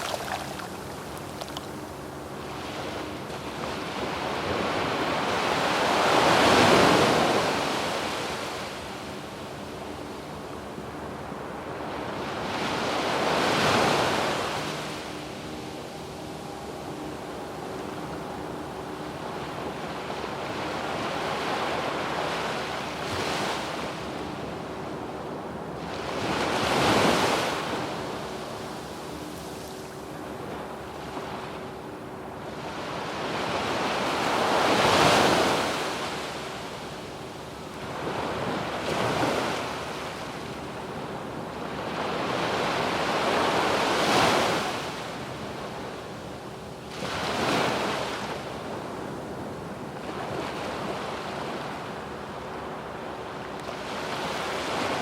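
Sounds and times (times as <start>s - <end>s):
sea waves breaking on beach: 0.0s - 31.7s, 32.4s - 55.0s.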